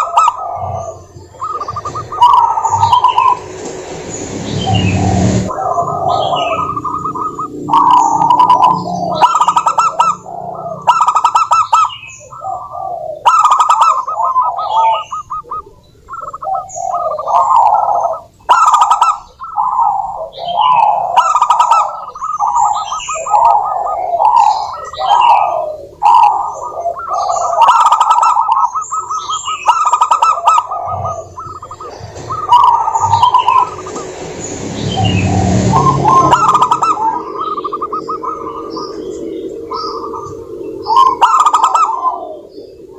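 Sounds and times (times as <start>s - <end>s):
doves cooing: 0.0s - 42.9s
high bird chirps: 0.0s - 42.9s.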